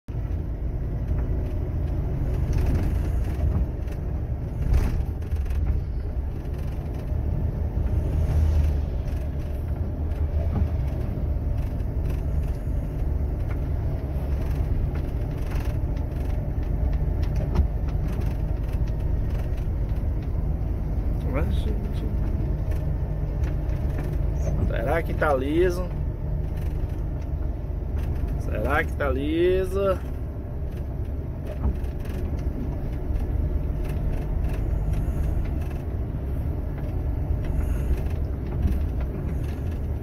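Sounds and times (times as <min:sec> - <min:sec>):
truck engine rumble: 0:00.0 - 0:40.0
road noise on wet road: 0:00.1 - 0:40.0
knocks and rattles: 0:00.2 - 0:40.0.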